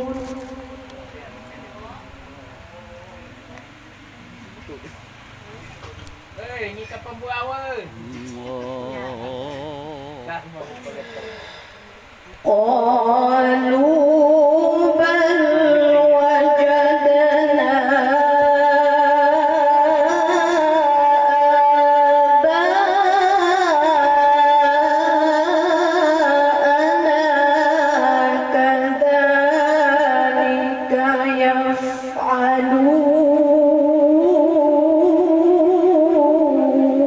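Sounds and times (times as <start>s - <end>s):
woman chanting into a microphone: 0.0s - 2.5s, 8.0s - 10.3s, 10.9s - 37.0s.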